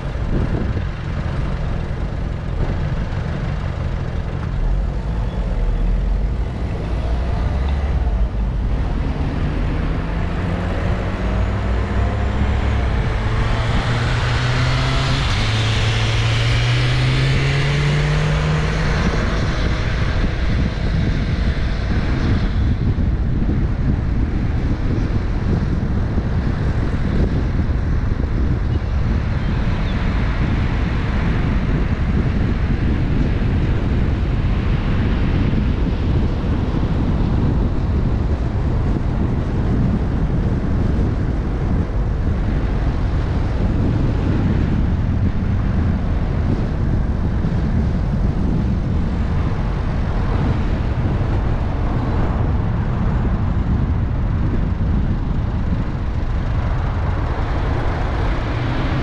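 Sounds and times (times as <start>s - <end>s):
car engine accelerating: 0.0s - 59.0s
tyre road and wind noise: 0.0s - 59.0s.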